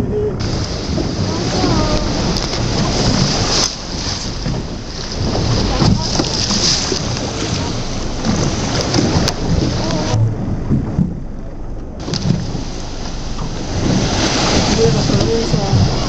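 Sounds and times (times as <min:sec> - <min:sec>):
boat engine: 0:00.0 - 0:16.0
water wash: 0:00.0 - 0:16.0
wind buffeting microphone: 0:00.0 - 0:16.0.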